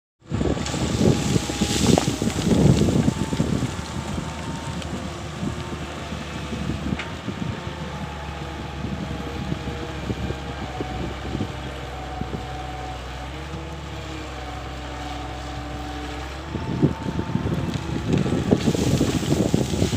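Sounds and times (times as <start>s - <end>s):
excavator diesel engine running: 0.2s - 19.9s
wind buffeting microphone: 0.2s - 19.9s.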